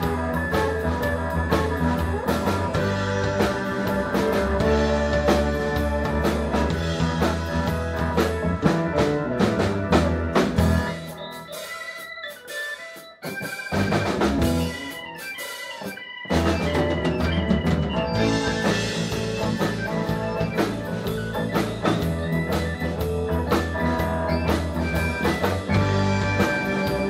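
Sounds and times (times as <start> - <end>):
bass guitar: 0.0 - 27.0
drum kit: 0.0 - 27.0
electric guitar: 0.0 - 27.0
keyboard: 0.0 - 27.0.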